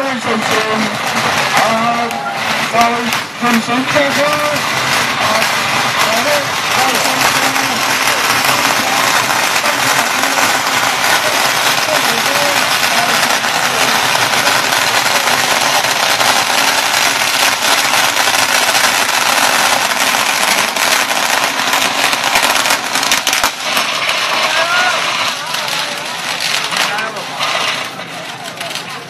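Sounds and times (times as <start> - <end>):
firecrackers crackling: 0.0 - 29.0.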